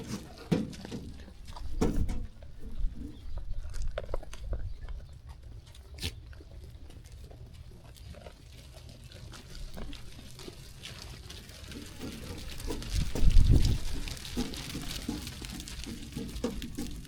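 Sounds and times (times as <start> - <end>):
sheep rustling and snuffling: 0.0 - 17.0.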